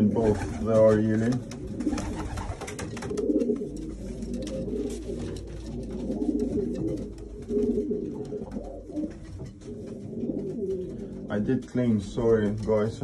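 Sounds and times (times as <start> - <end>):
pigeons cooing: 0.0 - 11.5.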